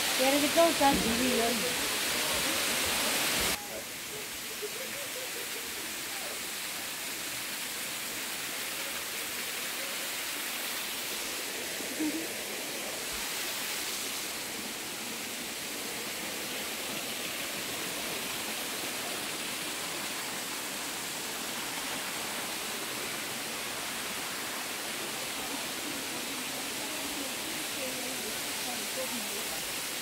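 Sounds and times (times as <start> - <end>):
waterfall and stream rushing: 0.0 - 30.0.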